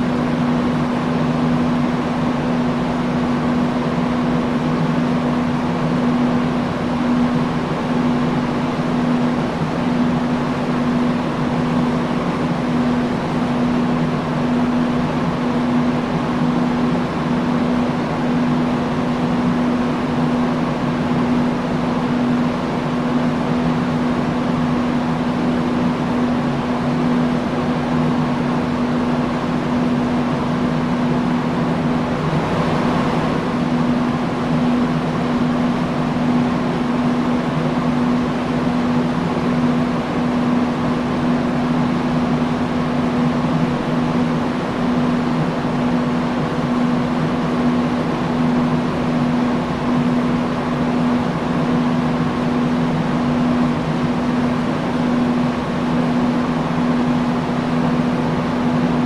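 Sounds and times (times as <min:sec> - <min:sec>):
industrial fan air rushing: 0:00.0 - 0:59.0.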